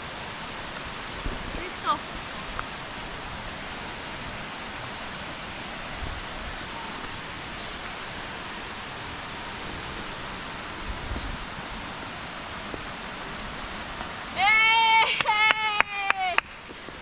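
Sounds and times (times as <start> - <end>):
running water hissing: 0.0 - 17.0.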